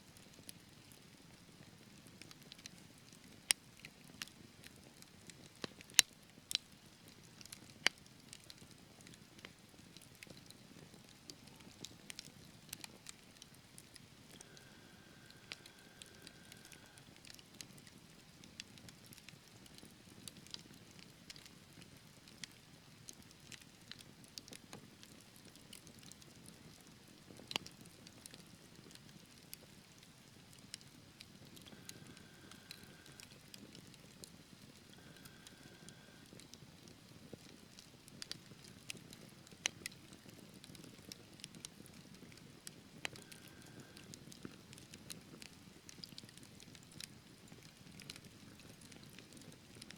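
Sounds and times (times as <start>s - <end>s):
wood fire crackling: 0.1s - 49.9s.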